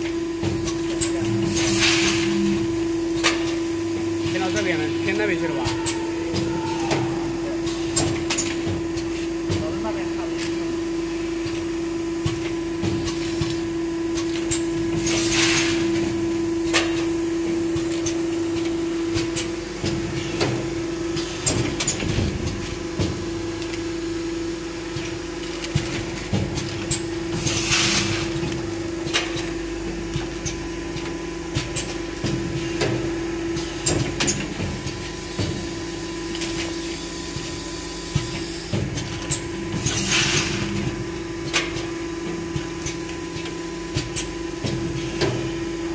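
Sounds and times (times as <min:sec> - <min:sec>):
packing machine hum: 0:00.0 - 0:45.9.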